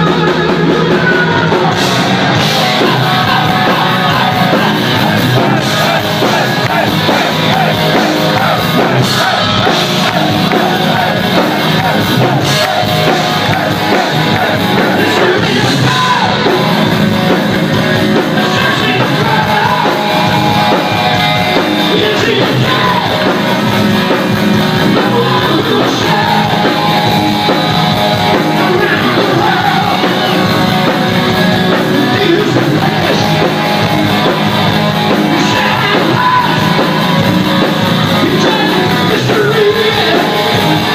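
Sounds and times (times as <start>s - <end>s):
loud rock music with singing: 0.0s - 40.9s.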